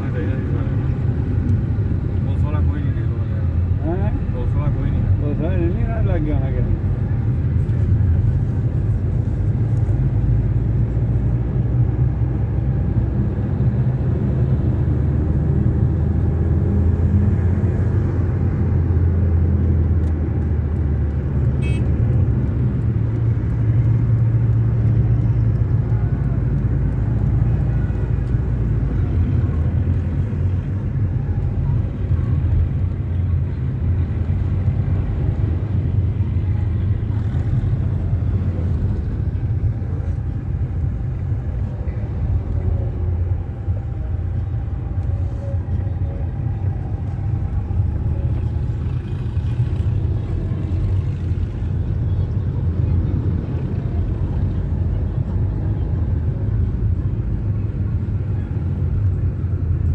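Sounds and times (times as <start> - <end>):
road noise: 0.0 - 59.9
tractor and traffic engines rumbling: 0.0 - 59.9.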